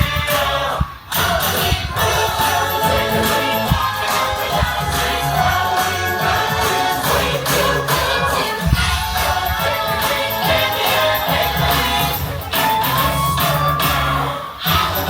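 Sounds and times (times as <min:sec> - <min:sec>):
choir-like singing over a beat: 0:00.0 - 0:15.0.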